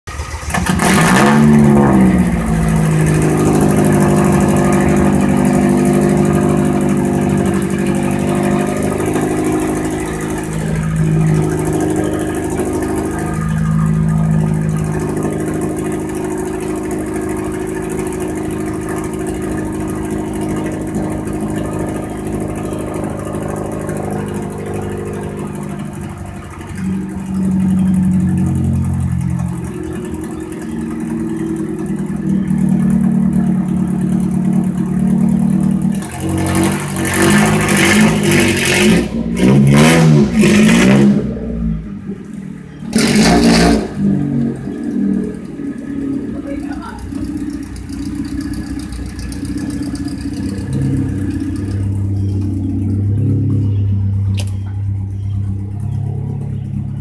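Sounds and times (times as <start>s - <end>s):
pickup truck engine idling loudly: 0.0s - 40.0s, 41.5s - 57.0s.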